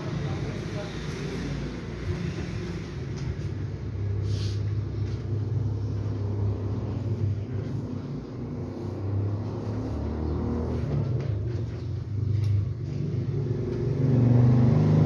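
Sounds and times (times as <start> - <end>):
gas burner rumbling: 0.0 - 15.0.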